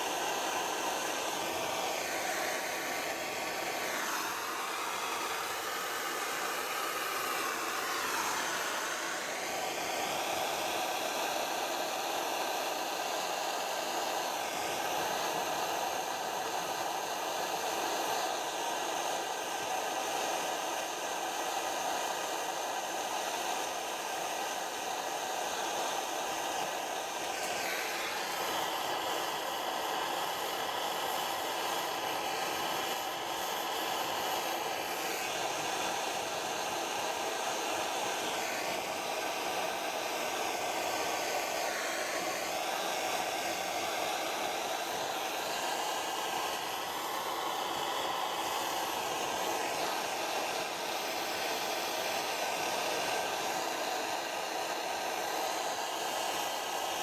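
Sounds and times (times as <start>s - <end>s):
blowlamp flame hissing: 0.0s - 57.0s.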